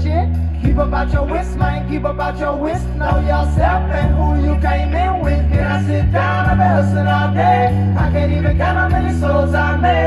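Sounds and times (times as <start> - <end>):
song with sung vocal and bass: 0.0 - 10.0.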